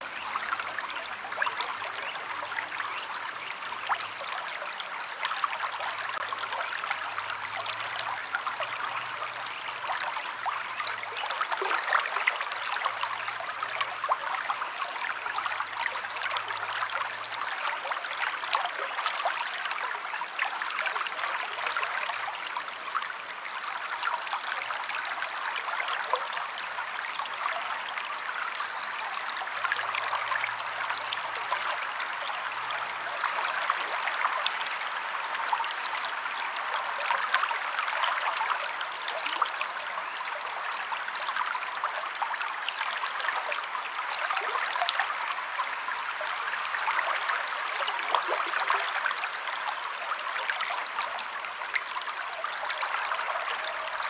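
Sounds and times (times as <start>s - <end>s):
river water flowing over stones: 0.0s - 54.0s.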